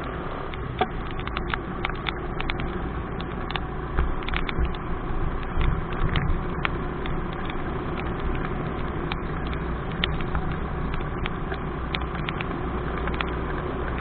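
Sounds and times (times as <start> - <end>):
motorcycle engine and road rumble: 0.0 - 14.0
raindrops tapping on camera: 0.0 - 14.0.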